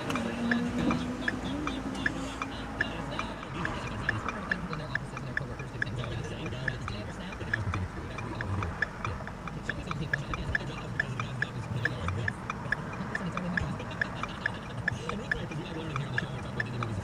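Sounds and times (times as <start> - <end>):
car turn signal clicking: 0.0 - 17.0
low hum of car: 0.0 - 17.0.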